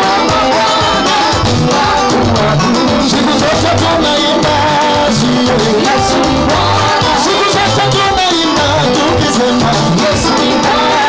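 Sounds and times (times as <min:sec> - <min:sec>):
music with singing over loudspeaker: 0:00.0 - 0:11.0.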